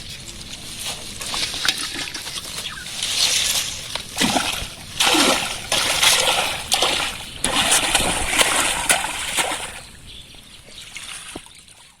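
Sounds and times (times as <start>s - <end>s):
water splashing: 0.0s - 10.1s, 10.7s - 12.0s.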